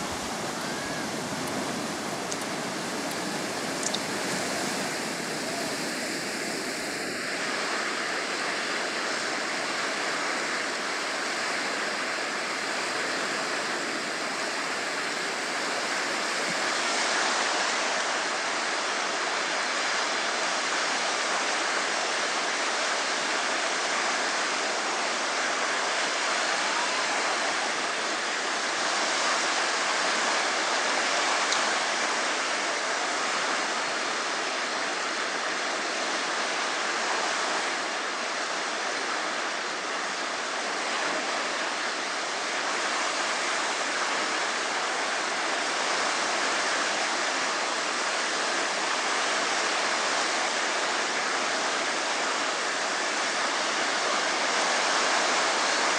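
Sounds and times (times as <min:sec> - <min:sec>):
waves breaking in shallows: 0:00.0 - 0:55.9.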